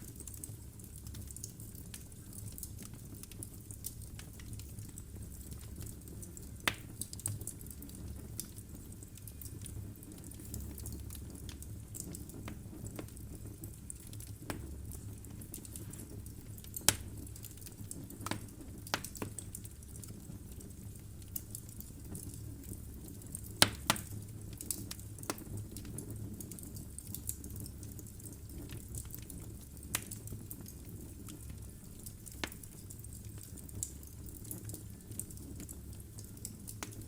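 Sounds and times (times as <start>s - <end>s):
logs crackling in fireplace: 0.0s - 37.0s.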